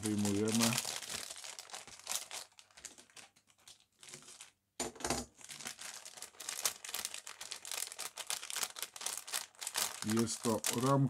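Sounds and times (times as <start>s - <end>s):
plastic bag crinkling: 0.0s - 4.6s, 5.3s - 11.0s.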